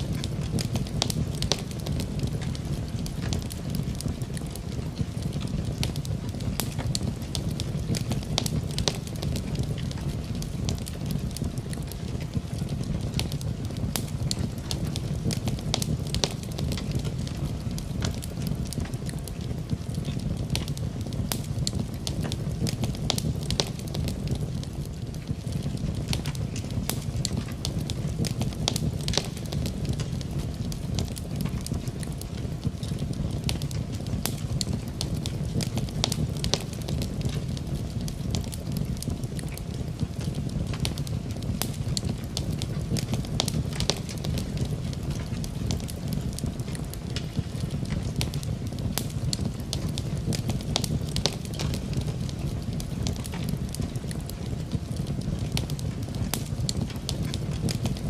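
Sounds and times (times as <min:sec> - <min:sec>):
low rumble of flames: 0:00.0 - 0:58.0
rain: 0:00.0 - 0:58.0
wood fire crackling and popping: 0:00.0 - 0:58.0.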